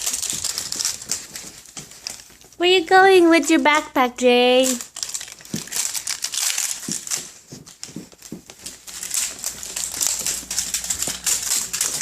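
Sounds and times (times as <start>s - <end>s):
irregular rustling: 0.0s - 12.0s.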